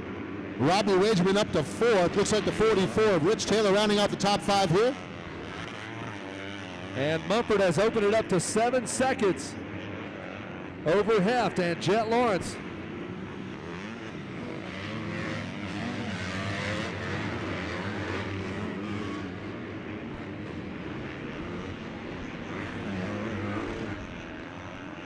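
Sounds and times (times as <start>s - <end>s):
motocross bike engines racing: 0.0s - 25.0s.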